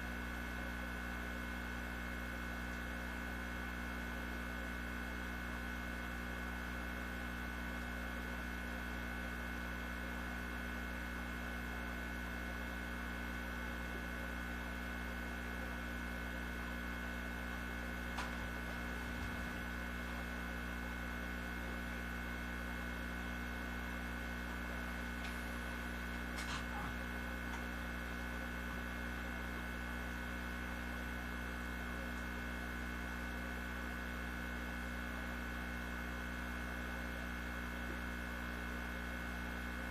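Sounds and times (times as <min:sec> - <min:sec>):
electrical hum with high tone: 0:00.0 - 0:39.9.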